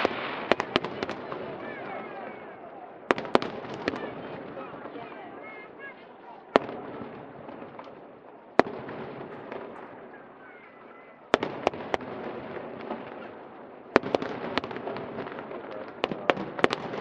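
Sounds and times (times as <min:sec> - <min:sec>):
crowd murmur: 0:00.0 - 0:17.0
fireworks bursting: 0:00.0 - 0:17.0.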